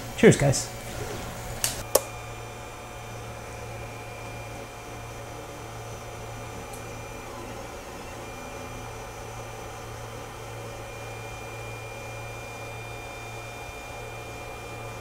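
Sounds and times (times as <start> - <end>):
printer fans and motors humming: 0.0 - 15.0.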